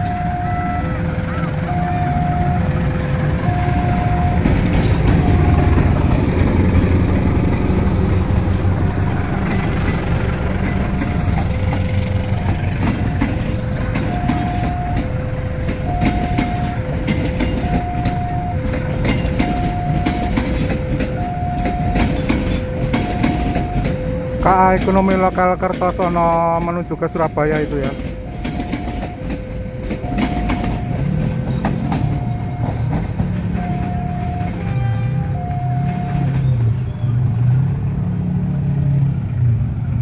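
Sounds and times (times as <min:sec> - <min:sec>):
two-tone crossing alarm: 0:00.0 - 0:06.0, 0:10.6 - 0:36.8
diesel locomotive engine: 0:00.0 - 0:40.0
train wheels clattering: 0:02.9 - 0:36.8.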